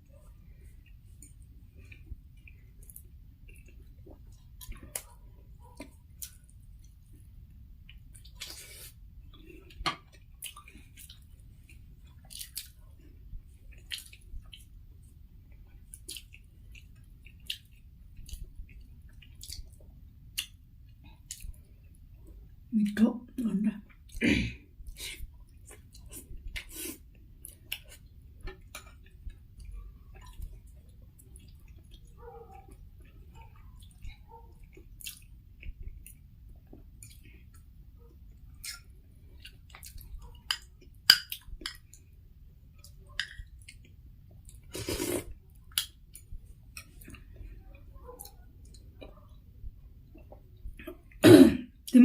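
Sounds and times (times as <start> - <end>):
person chewing food: 0.0 - 22.7, 23.9 - 51.2.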